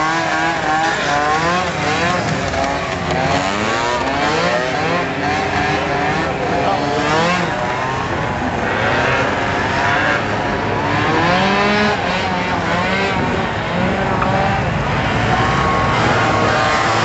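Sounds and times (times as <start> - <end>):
scooter engines revving: 0.0 - 17.0.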